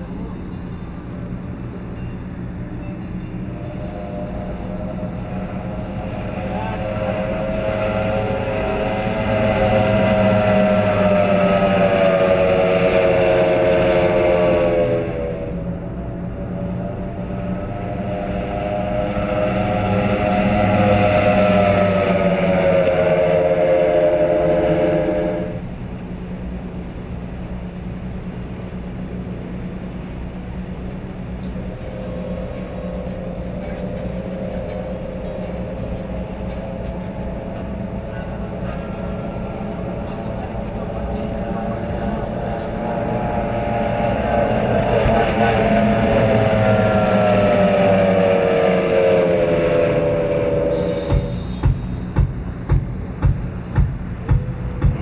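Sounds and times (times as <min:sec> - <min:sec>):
race boat engines at speed: 0:00.0 - 0:55.0.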